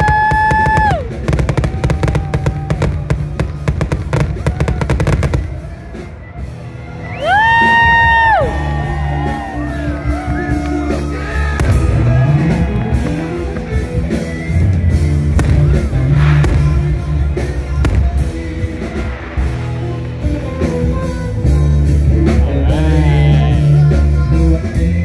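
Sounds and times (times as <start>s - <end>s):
rock music: 0.0s - 25.0s.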